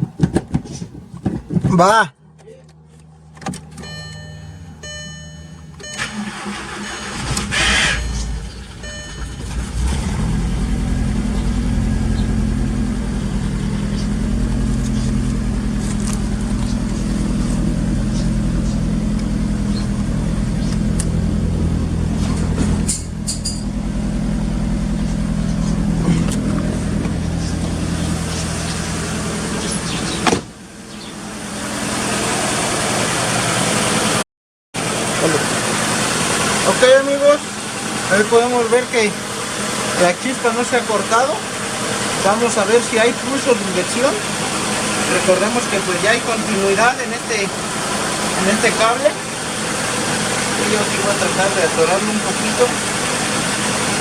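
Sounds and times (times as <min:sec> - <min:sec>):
car engine cranking: 0:00.0 - 0:34.2, 0:34.8 - 0:54.0
car engine idling: 0:00.0 - 0:34.2, 0:34.8 - 0:54.0.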